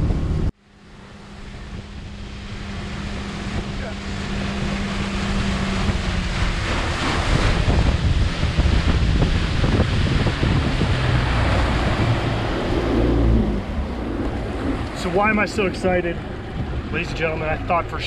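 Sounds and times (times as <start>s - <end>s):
outboard motor running: 0.0s - 18.0s
water rushing: 0.0s - 18.0s
wind buffeting microphone: 0.0s - 18.0s.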